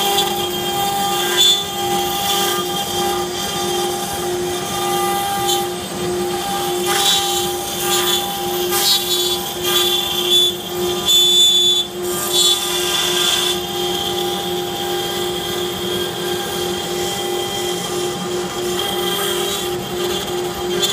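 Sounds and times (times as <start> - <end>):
bit milling plywood: 0.0 - 20.9
router spindle running: 0.0 - 20.9.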